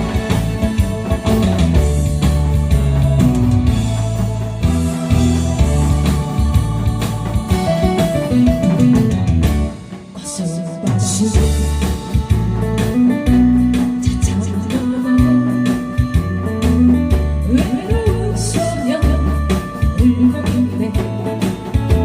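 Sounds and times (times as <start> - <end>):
instrumental music with guitar and drums: 0.0 - 22.0.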